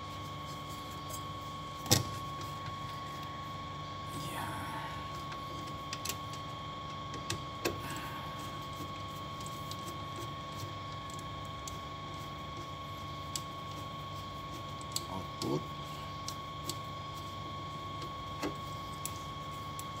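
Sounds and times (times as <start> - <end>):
steady hum with high tone: 0.0 - 20.0.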